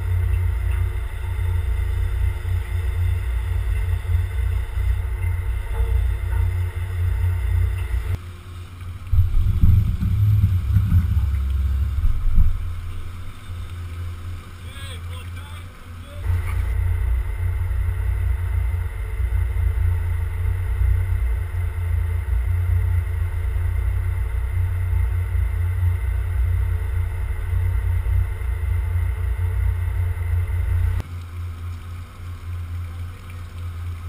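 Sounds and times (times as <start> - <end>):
faint hum: 0.0 - 34.0
ship machinery low rumble: 0.0 - 34.0.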